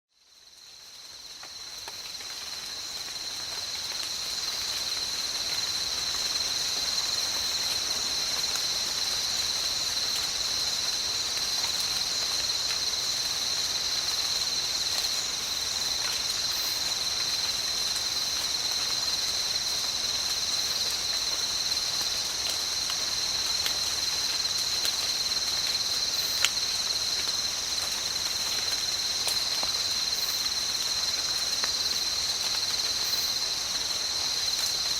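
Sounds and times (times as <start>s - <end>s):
steady rain: 0.1s - 34.9s
high-pitched insect chorus: 0.2s - 34.9s.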